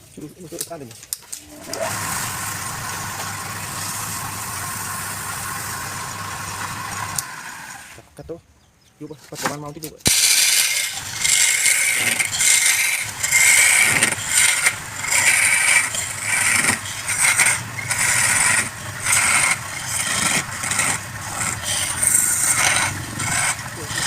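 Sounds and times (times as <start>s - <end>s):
lathe motor hum: 1.4s - 8.0s, 10.1s - 24.0s
turning tool cutting wood: 1.4s - 8.0s, 10.0s - 24.0s.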